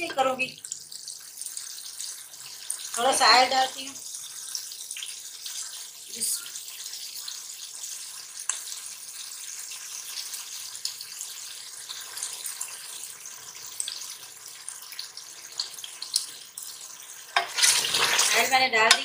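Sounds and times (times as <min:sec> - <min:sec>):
meat sizzling in hot oil: 0:00.0 - 0:19.0
oil popping and crackling: 0:00.0 - 0:19.0.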